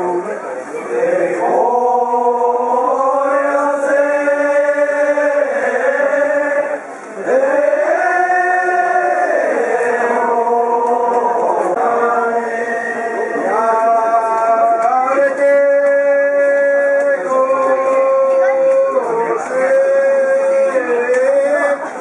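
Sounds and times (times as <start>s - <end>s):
men chanting held notes: 0.0s - 22.0s.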